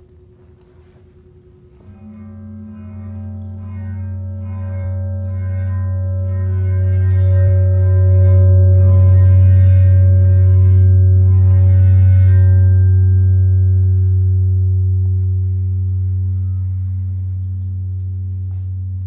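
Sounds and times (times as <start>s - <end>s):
low droning tone with overtones: 0.0s - 19.0s.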